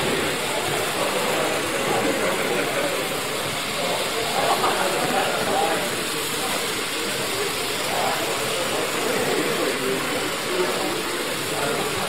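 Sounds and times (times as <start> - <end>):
hubbub of people talking: 0.0 - 12.0.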